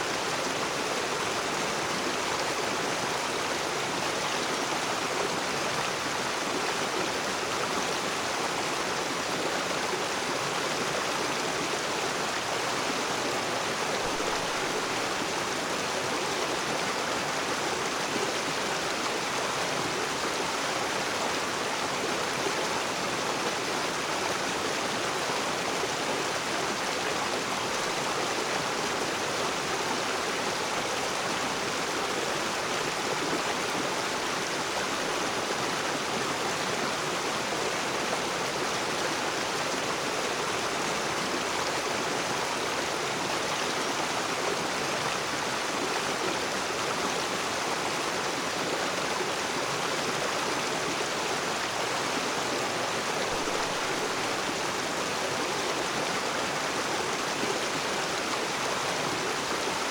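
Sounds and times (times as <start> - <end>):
river running over rocks: 0.0 - 59.9.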